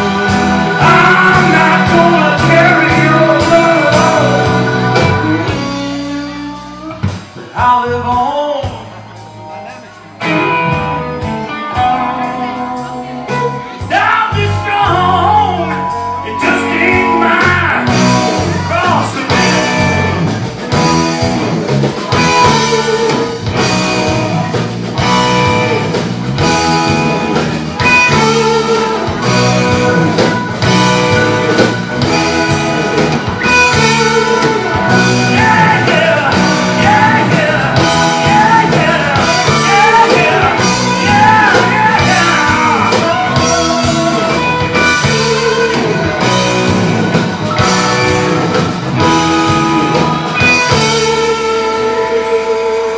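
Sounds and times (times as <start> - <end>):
blues-rock band playing: 0.0 - 52.9
guitar lead with bent notes: 0.0 - 52.9.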